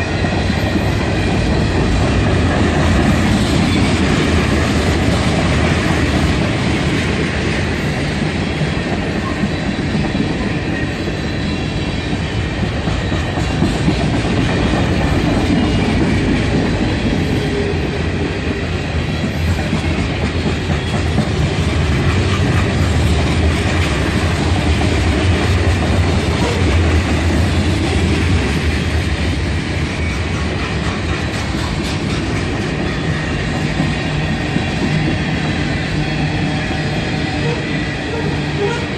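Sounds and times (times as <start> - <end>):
train wheels clacking over rail joints: 0.0 - 10.6, 12.1 - 38.9.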